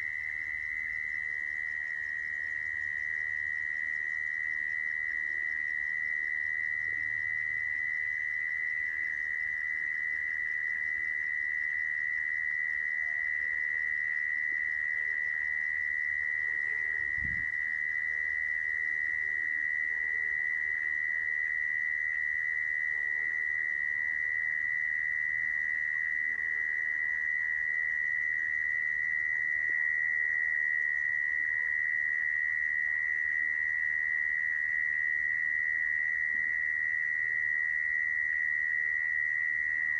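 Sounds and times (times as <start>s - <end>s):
mole cricket trilling: 0.0s - 39.9s.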